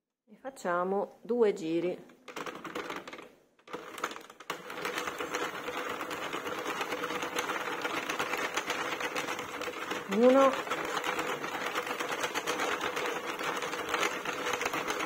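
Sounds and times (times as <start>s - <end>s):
knitting machine needles clattering: 2.2s - 15.0s.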